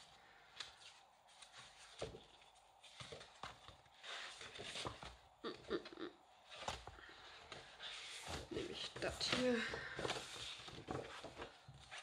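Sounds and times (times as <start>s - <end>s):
paper rustle: 0.0s - 5.4s, 6.4s - 12.0s.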